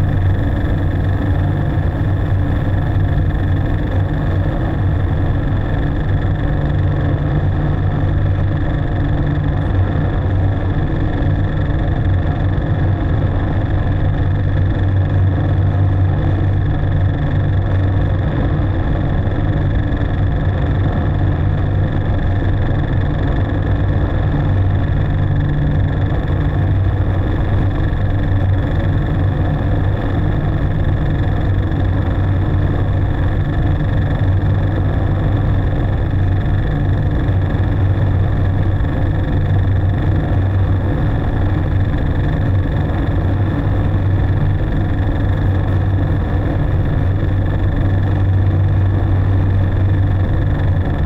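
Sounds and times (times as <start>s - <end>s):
electronic synthesizer drone: 0.0s - 51.0s.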